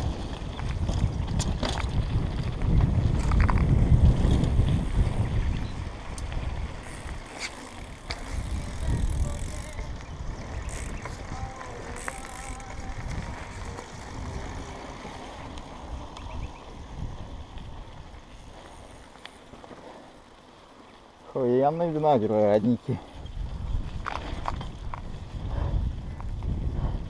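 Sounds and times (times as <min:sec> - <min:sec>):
wind rumbling on microphone: 0:00.0 - 0:20.4, 0:22.2 - 0:27.0
bike clicks and rattles: 0:00.0 - 0:27.0.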